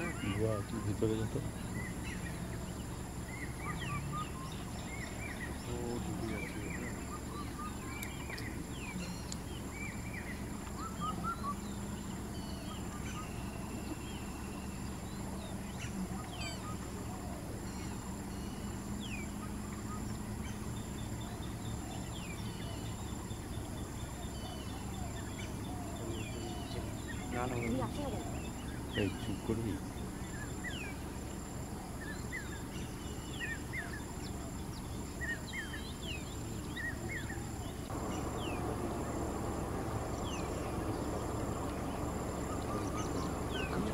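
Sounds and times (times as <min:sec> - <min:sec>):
forest birds chirping and whistling: 0:00.0 - 0:43.9
steady low background noise: 0:00.0 - 0:43.9.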